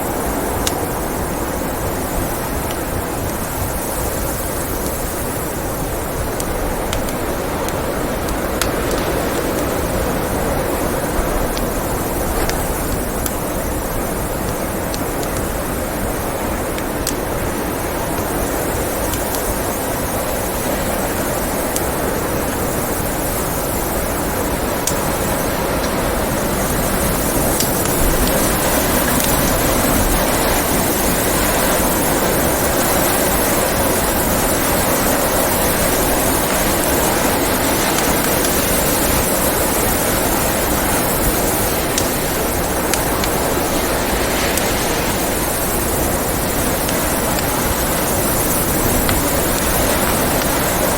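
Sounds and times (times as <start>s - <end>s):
blizzard wind rushing: 0.0s - 50.9s
wood fire crackling pops: 0.0s - 50.9s.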